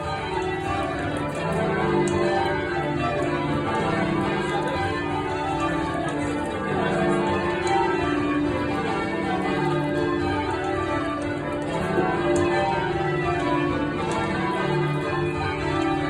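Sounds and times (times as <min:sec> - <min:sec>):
church bells change ringing: 0:00.0 - 0:16.0.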